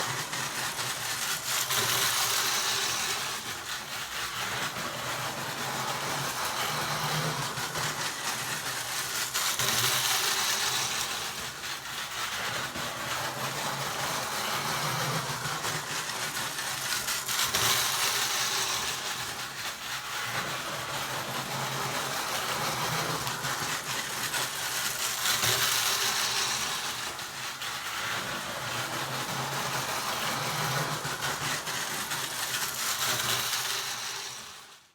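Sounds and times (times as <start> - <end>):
toy train whirring and rattling: 0.0 - 34.9.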